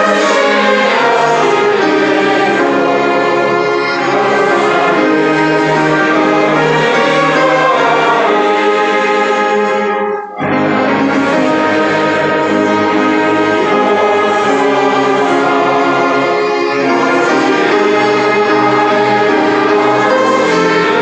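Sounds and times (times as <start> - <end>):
brass playing sustained chords: 0.0 - 21.0
strings: 0.0 - 21.0.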